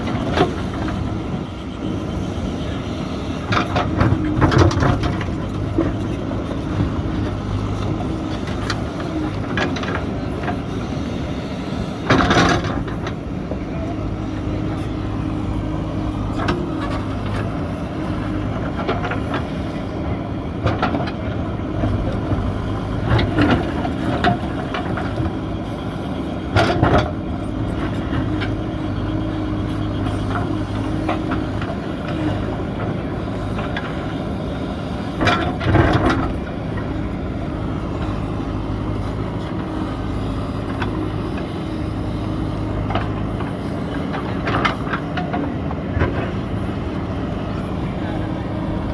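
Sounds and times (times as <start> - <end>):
diesel engine running: 0.0 - 48.9
digger clanking and crunching: 0.0 - 48.9.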